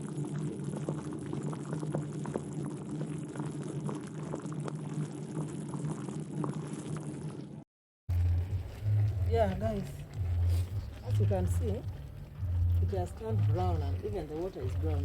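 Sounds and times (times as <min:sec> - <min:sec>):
small bubbling pops: 0:00.0 - 0:15.0
water boiling in saucepan: 0:00.0 - 0:15.0.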